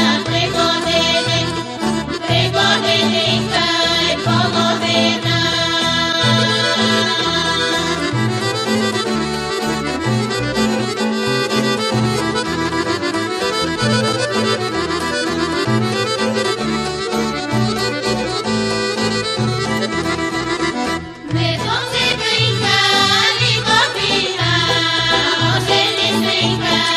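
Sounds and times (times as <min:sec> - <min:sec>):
instrumental folk dance music: 0:00.0 - 0:26.9.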